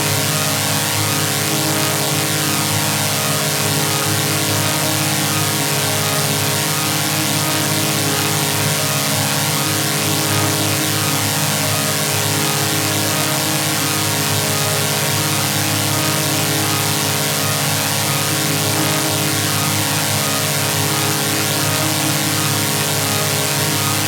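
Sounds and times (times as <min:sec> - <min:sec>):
buzzing vocoder chord drone: 0:00.0 - 0:24.0.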